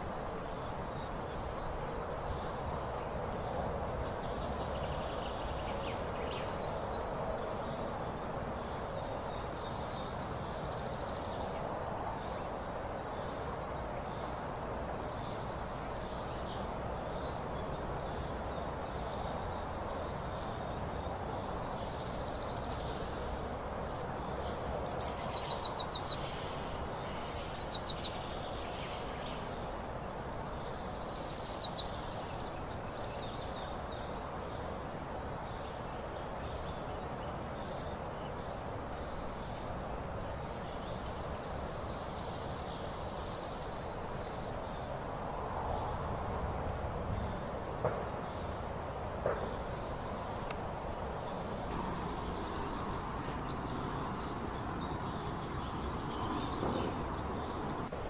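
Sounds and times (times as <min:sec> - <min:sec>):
songbirds chirping: 0:00.0 - 0:58.0
steady background hiss: 0:00.0 - 0:58.0.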